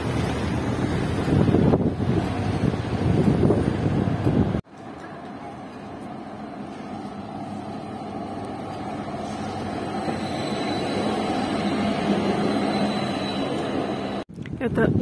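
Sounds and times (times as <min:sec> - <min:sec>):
tram running on rails: 0:00.0 - 0:15.0.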